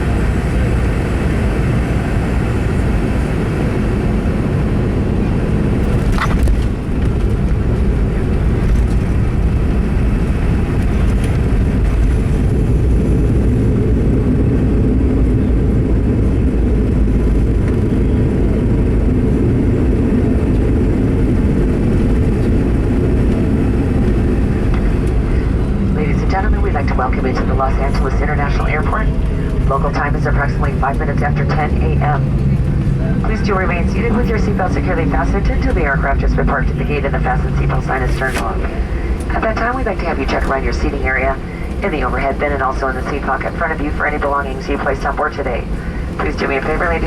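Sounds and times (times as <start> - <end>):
aircraft engines and wheels rumbling: 0.0 - 47.0.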